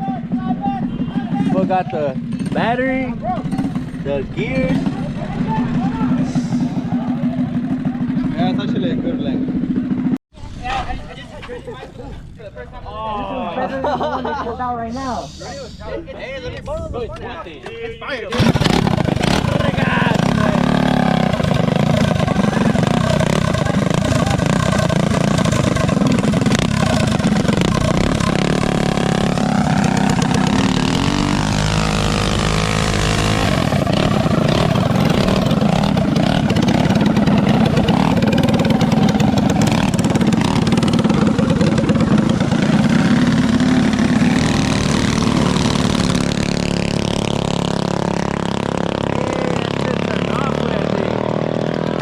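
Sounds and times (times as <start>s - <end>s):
mini bike engines revving: 0.0s - 10.2s, 18.3s - 52.0s.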